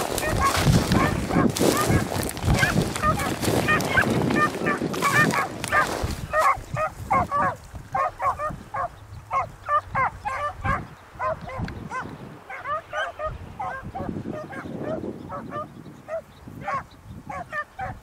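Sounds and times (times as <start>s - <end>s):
beagles baying: 0.0s - 18.0s.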